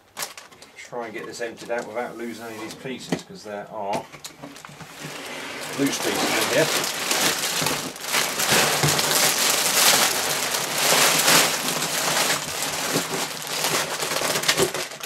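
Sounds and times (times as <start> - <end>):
plastic bags crinkling: 0.0 - 3.0, 4.4 - 15.0.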